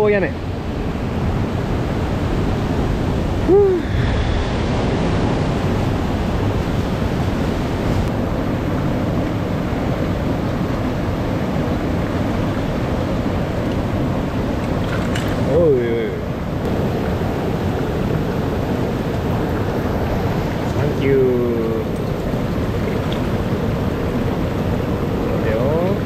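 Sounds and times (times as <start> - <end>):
stream rushing over rocks: 3.0 - 26.0.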